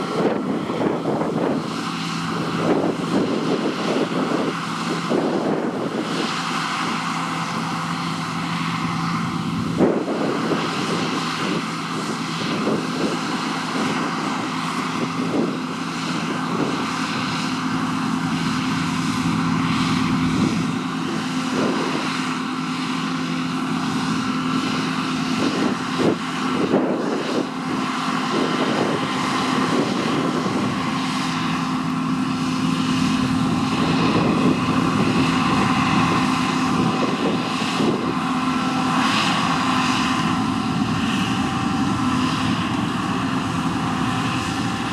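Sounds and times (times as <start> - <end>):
combine harvester engine drone: 0.0 - 44.9.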